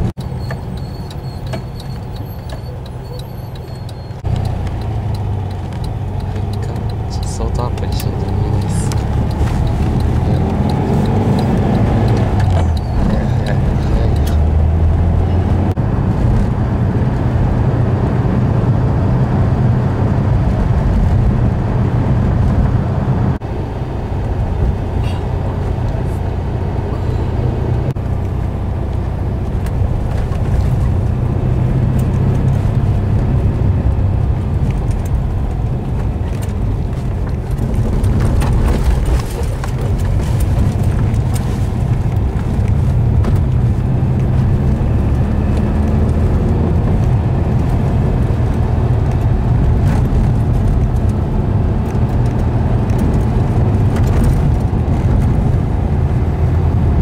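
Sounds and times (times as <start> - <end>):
car engine drone: 0.0 - 57.0
road noise inside car: 0.0 - 57.0.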